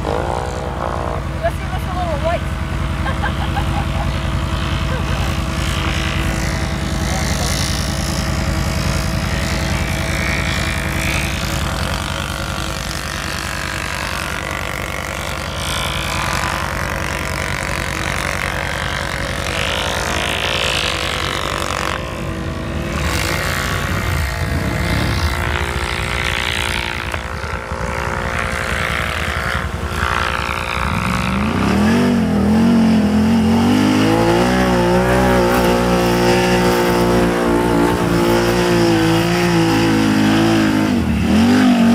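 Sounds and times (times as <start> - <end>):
low engine hum: 0.0 - 41.9
quad engine revving: 0.0 - 41.9.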